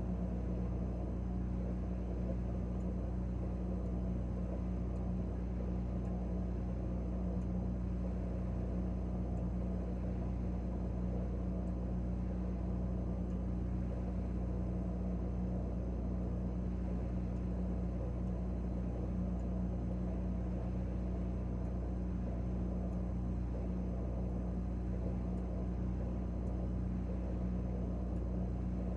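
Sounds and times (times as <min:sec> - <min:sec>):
refrigerator compressor hum: 0:00.0 - 0:28.9.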